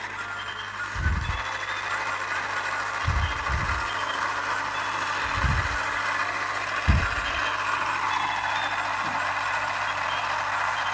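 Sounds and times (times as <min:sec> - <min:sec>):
steady whirring hiss: 0:00.0 - 0:10.9.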